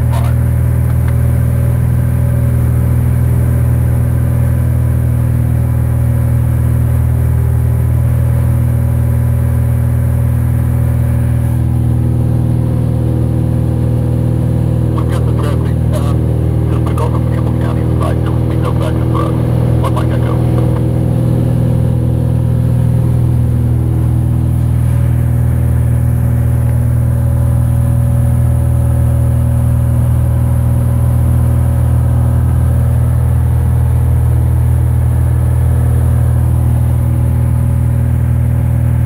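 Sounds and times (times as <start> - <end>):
airplane engine and propeller drone: 0.0 - 39.0.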